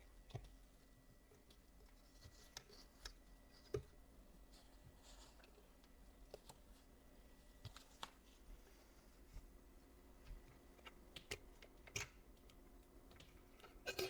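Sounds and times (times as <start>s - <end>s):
faint clicks and taps: 0.0s - 6.9s, 7.5s - 9.6s, 10.2s - 13.8s.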